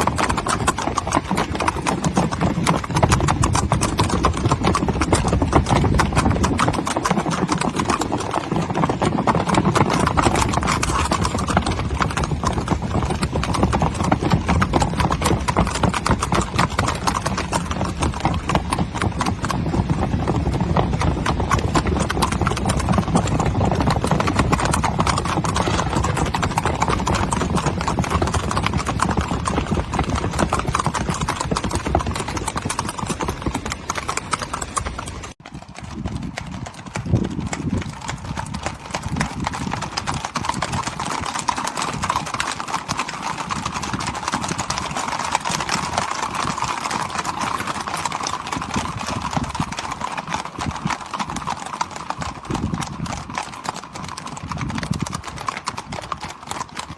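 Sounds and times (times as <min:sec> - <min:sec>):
hooves clattering on bridge: 0:00.0 - 0:56.9.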